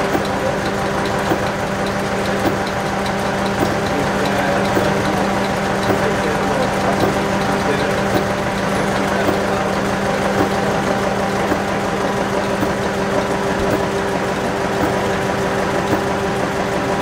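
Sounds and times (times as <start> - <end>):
single-cylinder diesel engine running: 0.0 - 17.0.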